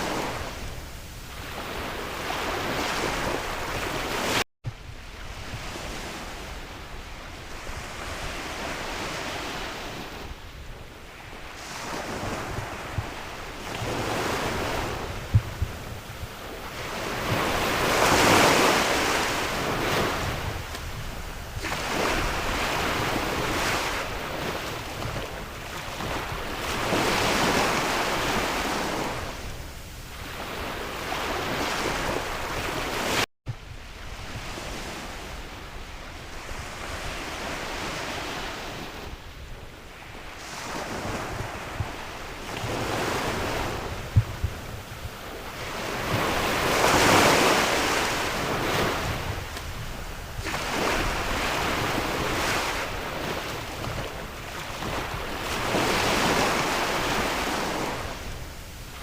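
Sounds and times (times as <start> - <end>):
sea waves washing in: 0.0 - 59.0
wind on microphone: 0.0 - 59.0.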